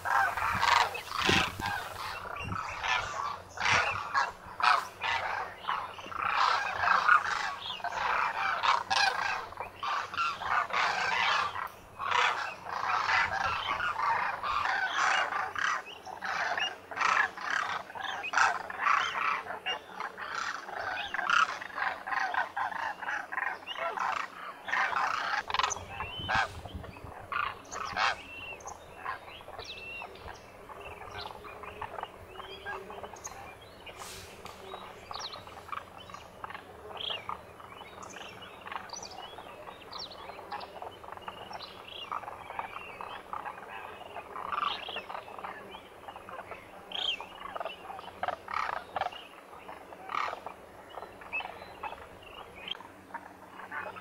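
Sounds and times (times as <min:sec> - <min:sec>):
flock of cranes calling: 0:00.0 - 0:54.0.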